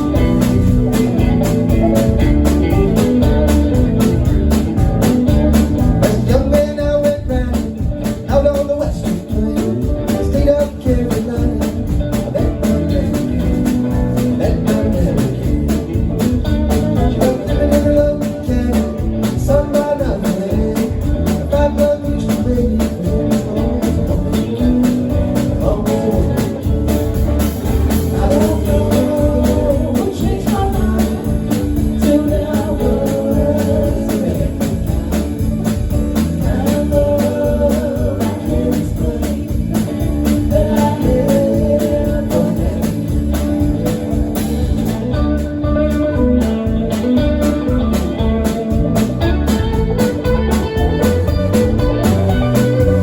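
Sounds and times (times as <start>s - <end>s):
live band playing: 0.0s - 53.0s
person singing: 5.0s - 27.0s, 27.9s - 44.0s, 45.1s - 53.0s.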